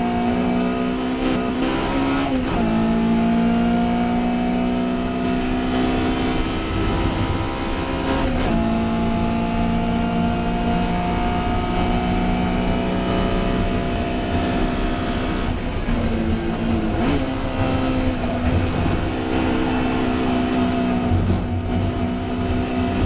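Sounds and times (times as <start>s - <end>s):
race car engine at high revs: 0.0s - 23.0s.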